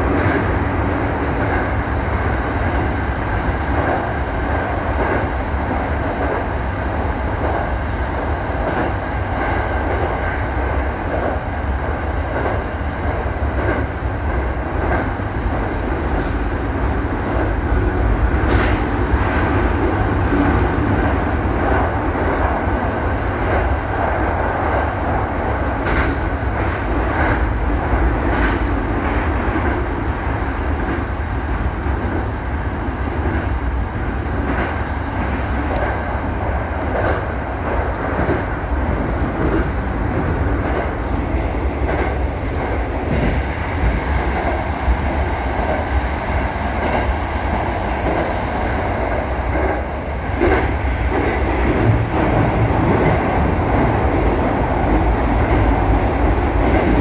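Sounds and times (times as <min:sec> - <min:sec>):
rumble of train wheels on rail: 0:00.0 - 0:57.0.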